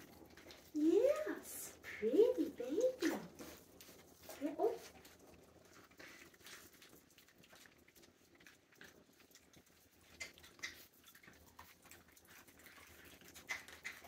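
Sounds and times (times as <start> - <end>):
puppies chewing and smacking: 0.0 - 14.0.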